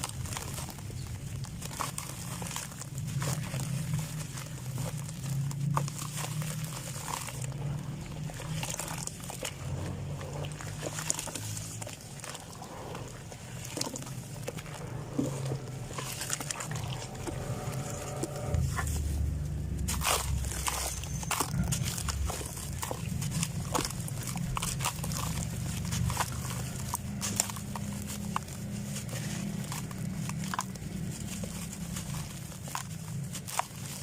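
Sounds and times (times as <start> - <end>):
low rumble: 0.0 - 34.0
sand-cement chunks crunching: 0.0 - 34.0.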